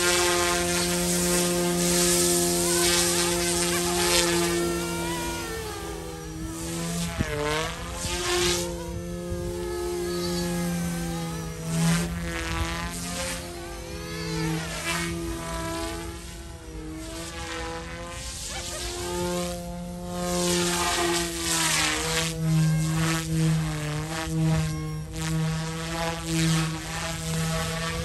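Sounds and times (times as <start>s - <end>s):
rc helicopter buzzing hum: 0.0s - 28.0s.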